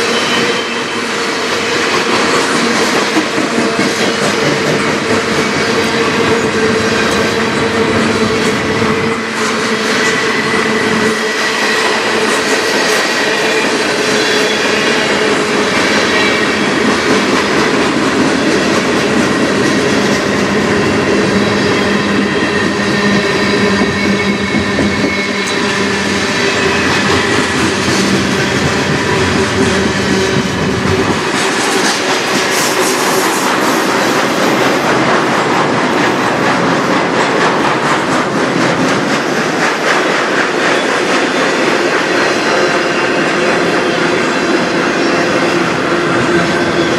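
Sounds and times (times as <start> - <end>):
freight train rolling past: 0.0 - 46.9.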